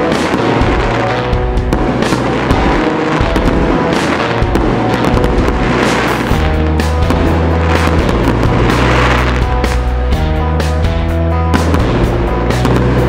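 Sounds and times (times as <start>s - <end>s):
fireworks bursting and crackling: 0.0s - 10.9s, 11.5s - 13.0s
loud music with bass line: 0.0s - 13.0s.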